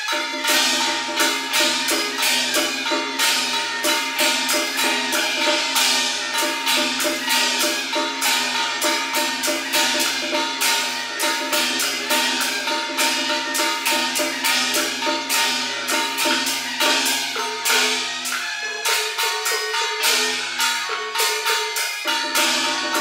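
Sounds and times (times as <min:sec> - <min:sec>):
clashing cymbals: 0:00.0 - 0:23.0
shawms playing reed notes: 0:00.0 - 0:23.0.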